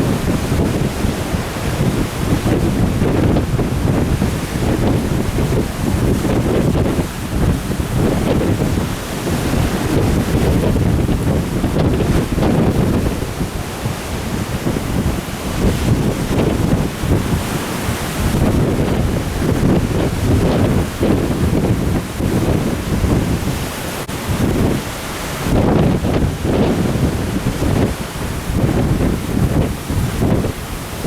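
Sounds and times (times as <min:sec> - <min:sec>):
surf breaking: 0:00.0 - 0:31.0
wind buffeting microphone: 0:00.0 - 0:31.0.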